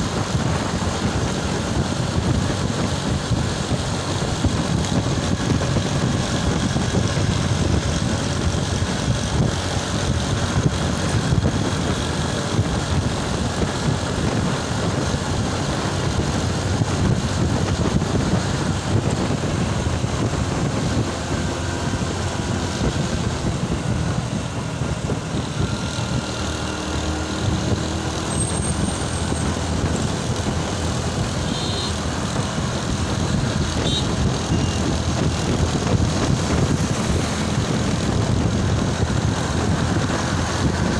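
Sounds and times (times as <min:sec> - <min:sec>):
motorcycle engine rumble: 0:00.0 - 0:40.9.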